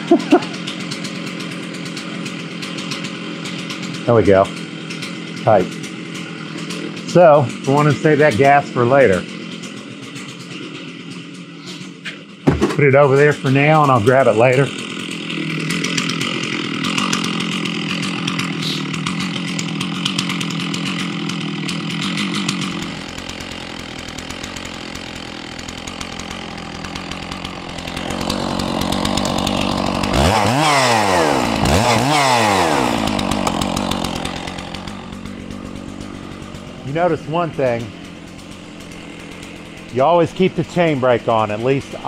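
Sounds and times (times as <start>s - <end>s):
chainsaw idling: 0.0s - 42.0s.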